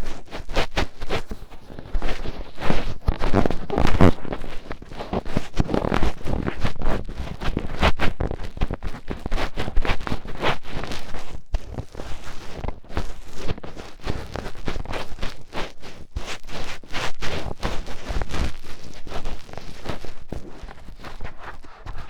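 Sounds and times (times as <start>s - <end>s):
fingertips scratching microphone: 0.0s - 22.0s.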